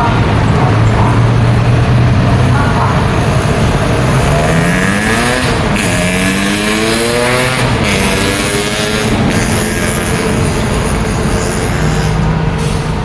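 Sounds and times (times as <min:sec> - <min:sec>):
road traffic noise: 0:00.0 - 0:13.0
vehicle accelerating past: 0:01.3 - 0:12.3.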